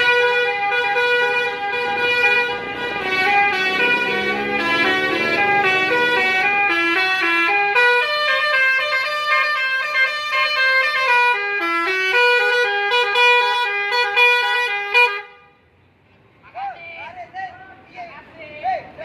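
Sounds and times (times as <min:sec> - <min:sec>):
musical air horn tune: 0:00.0 - 0:15.5.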